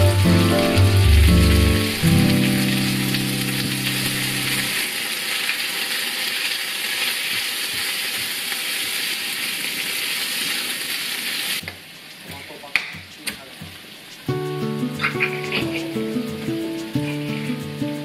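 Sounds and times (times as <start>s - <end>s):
chicken sizzling in a frying pan: 0.0s - 12.3s, 13.4s - 18.0s.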